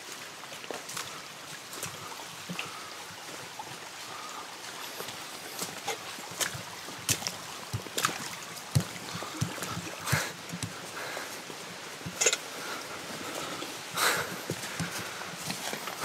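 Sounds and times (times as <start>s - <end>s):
stream running over stones: 0.0s - 16.0s
boots splashing on wet stones: 0.1s - 2.8s, 4.9s - 16.0s.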